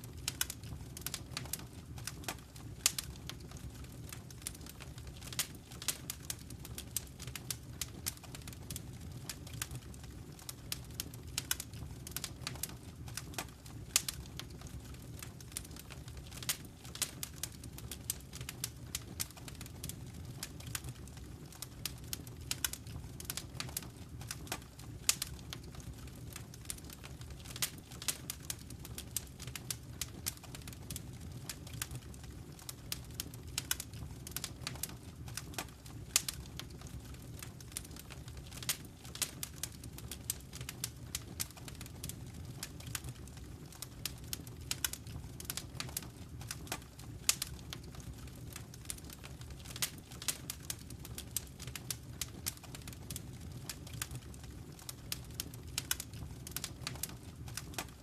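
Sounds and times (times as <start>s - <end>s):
fireplace fire crackling: 0.0s - 58.0s.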